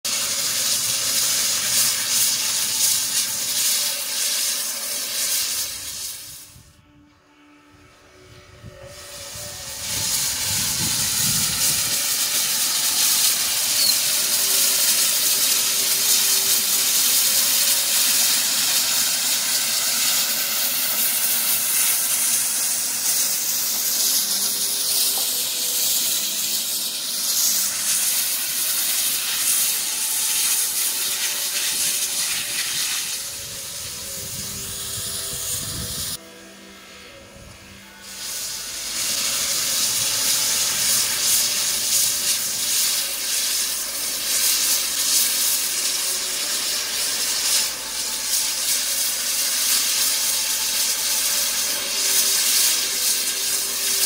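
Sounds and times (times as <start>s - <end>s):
steam locomotive venting steam: 0.0s - 6.9s, 7.7s - 54.0s.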